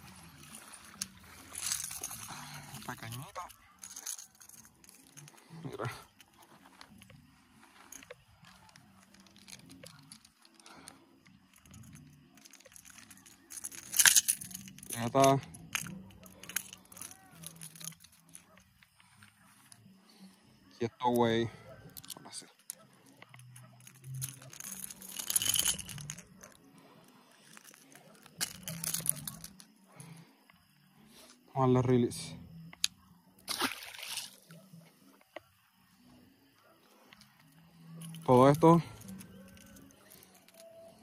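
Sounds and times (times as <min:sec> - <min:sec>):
fishing hooks clinking and rattling: 0:00.0 - 0:20.0, 0:20.6 - 0:41.0.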